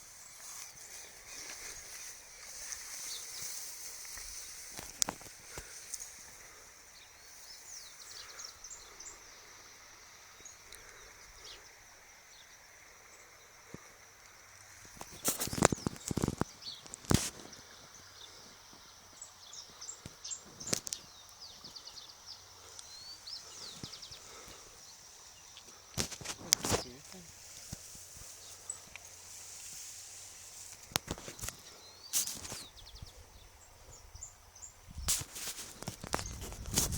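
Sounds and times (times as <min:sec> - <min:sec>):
steady high hiss: 0:00.0 - 0:36.9
birds chirping: 0:00.2 - 0:11.8, 0:15.0 - 0:29.4, 0:30.7 - 0:36.9.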